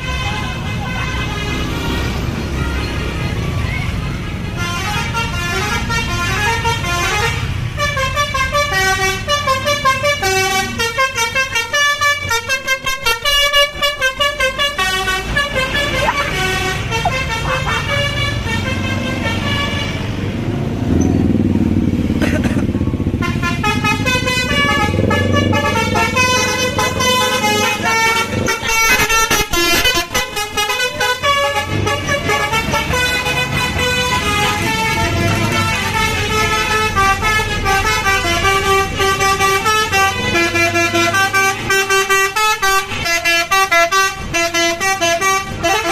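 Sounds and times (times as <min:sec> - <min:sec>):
multi-tone musical bus horn: 0:00.0 - 0:45.9.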